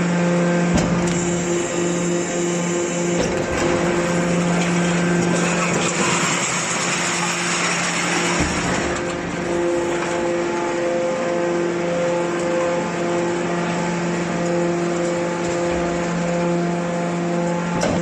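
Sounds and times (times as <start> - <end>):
baler motor and pump hum: 0.0 - 18.0.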